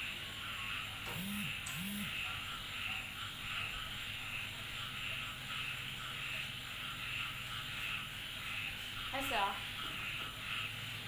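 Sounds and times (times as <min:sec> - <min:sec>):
rhythmic animal calling: 0:00.4 - 0:11.0.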